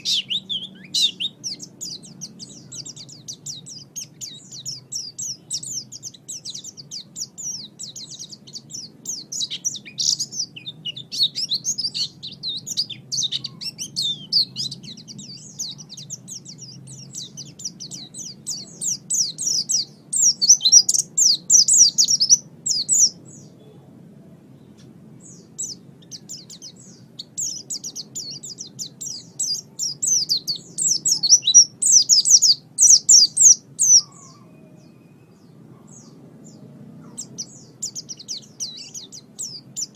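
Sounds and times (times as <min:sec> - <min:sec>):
bird twittering song: 0:00.0 - 0:23.9, 0:24.5 - 0:39.9
faint low hum: 0:00.0 - 0:39.9.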